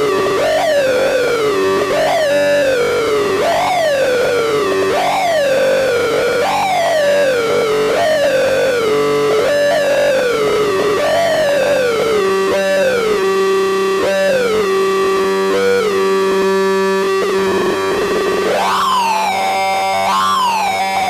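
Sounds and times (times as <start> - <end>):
swooping electronic tone: 0.0 - 21.0.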